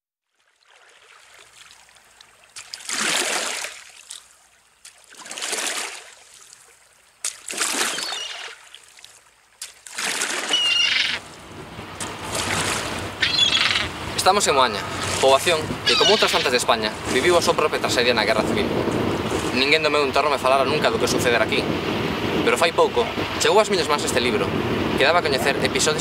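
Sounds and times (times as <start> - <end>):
sea waves washing on shore: 0.6 - 26.0.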